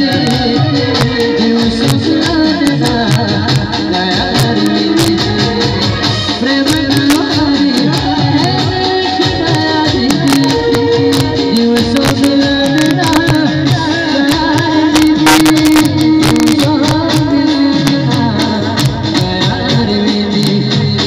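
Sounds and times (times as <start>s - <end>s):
hand drums beating: 0.0s - 21.0s
man singing: 0.0s - 21.0s.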